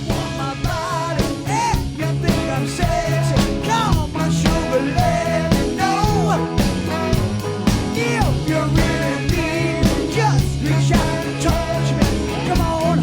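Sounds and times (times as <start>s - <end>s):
rock band music: 0.0s - 13.0s.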